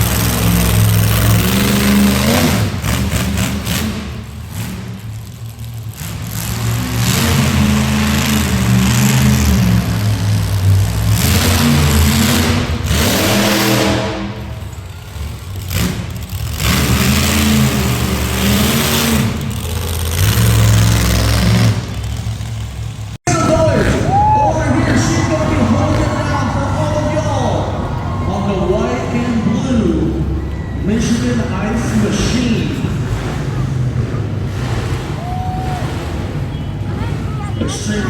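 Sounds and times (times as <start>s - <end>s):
truck engine revving hard: 0.0s - 38.0s.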